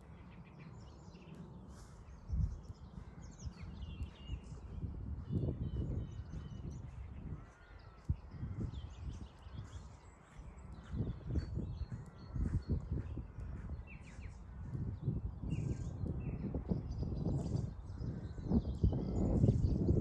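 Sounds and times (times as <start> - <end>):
birds chirping and trilling: 0.0 - 20.0
wind gusting on microphone: 1.6 - 20.0.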